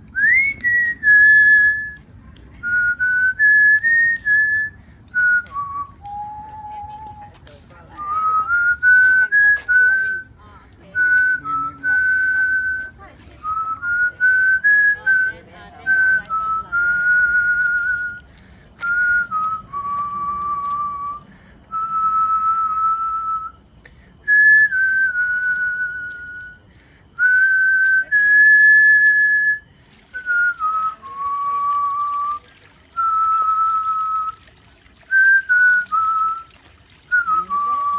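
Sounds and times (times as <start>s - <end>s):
person whistling a slow tune: 0.0s - 10.3s, 10.9s - 23.6s, 24.2s - 34.5s, 35.1s - 36.5s, 37.1s - 37.9s.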